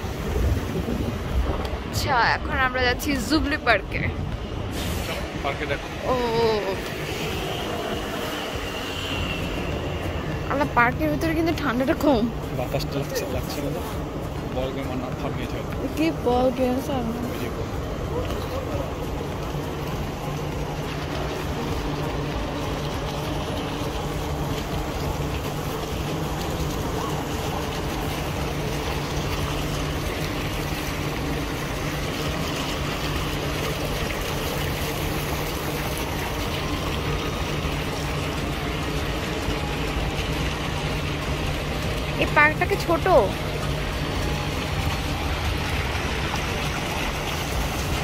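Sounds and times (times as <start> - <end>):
fountain water splashing: 0.0 - 48.0
low mechanical hum: 0.0 - 48.0.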